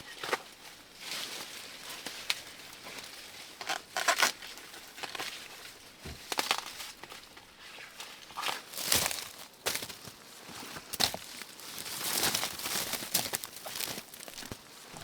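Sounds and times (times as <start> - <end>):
dry corn husks crackling and tearing: 0.0 - 15.0.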